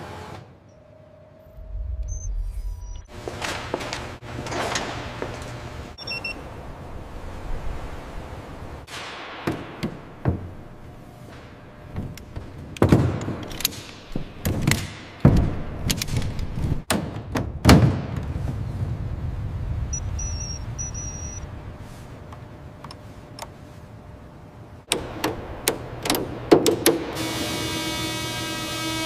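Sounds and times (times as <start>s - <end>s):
steady low hum: 0.6s - 16.9s, 18.3s - 29.0s.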